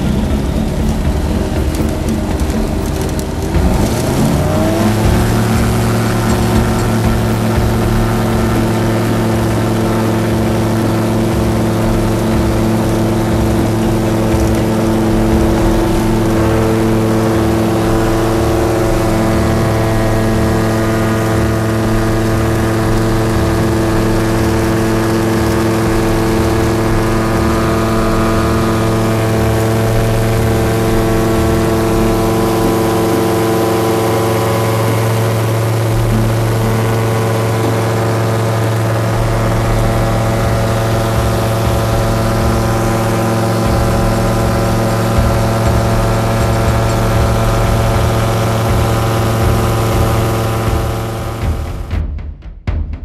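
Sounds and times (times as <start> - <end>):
airflow rush: 0.0 - 52.0
light aircraft engine at full power: 0.0 - 52.0.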